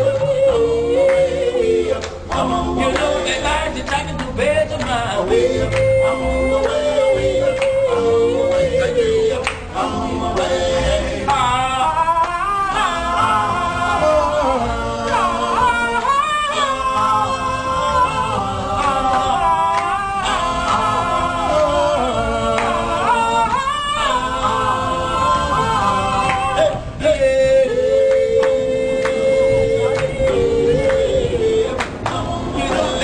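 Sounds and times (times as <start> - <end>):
men singing a cappella: 0.0 - 33.0.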